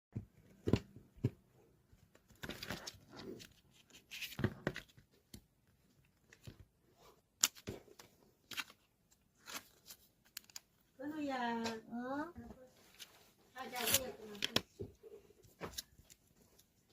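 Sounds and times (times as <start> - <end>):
rustling and crinkling: 0.2 - 10.9, 12.4 - 16.9.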